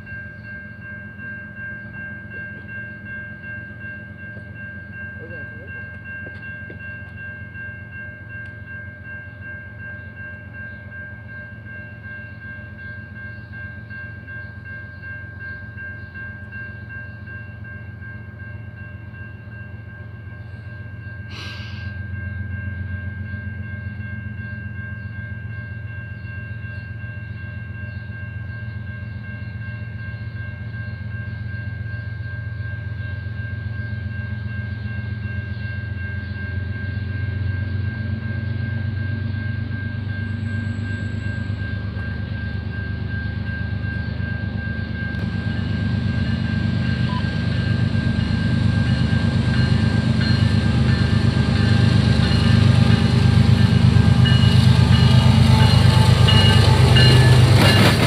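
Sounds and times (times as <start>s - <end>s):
railroad crossing bell ringing: 0.0s - 58.0s
train rumbling: 0.0s - 58.0s.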